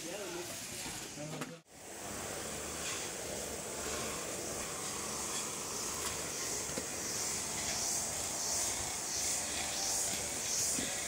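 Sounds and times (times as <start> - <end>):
forest insects droning: 1.7 - 11.0.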